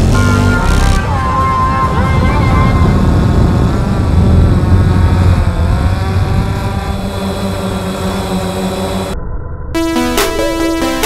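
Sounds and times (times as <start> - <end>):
drone motors humming: 0.0 - 11.0.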